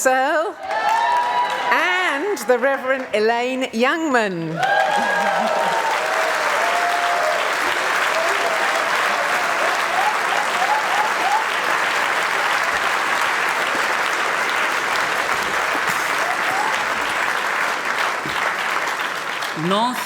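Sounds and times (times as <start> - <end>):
congregation applauding: 0.6 - 3.1, 4.5 - 20.0.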